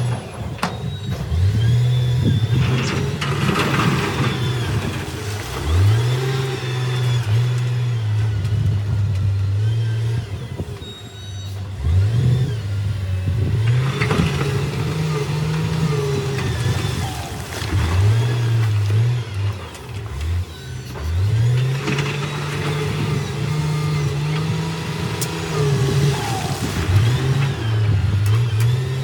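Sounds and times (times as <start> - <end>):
diesel engine revving: 0.0 - 29.0.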